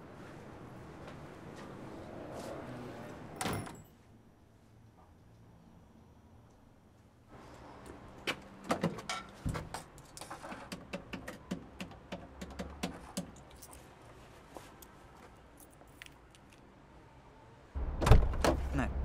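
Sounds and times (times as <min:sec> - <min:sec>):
low street background: 0:00.0 - 0:19.0.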